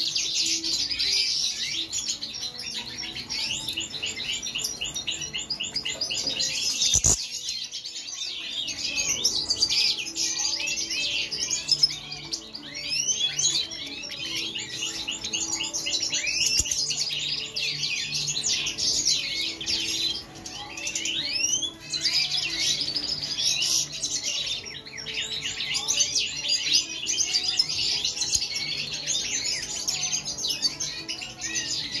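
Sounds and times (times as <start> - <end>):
flock of finches twittering: 0.0 - 32.0.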